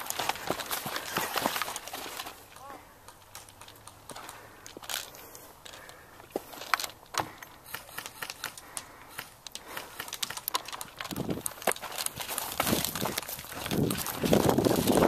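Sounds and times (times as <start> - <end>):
footsteps on dry ground: 0.0 - 7.0, 9.6 - 15.0
gun and gear clicks and rattles: 0.0 - 15.0.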